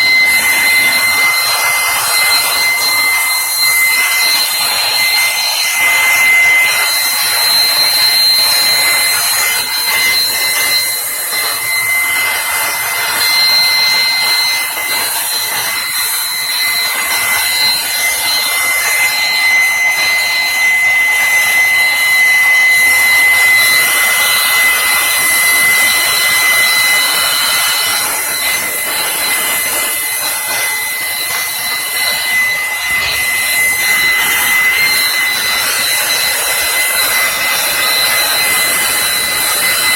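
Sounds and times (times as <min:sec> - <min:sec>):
electric air blower whining: 0:00.0 - 0:39.9.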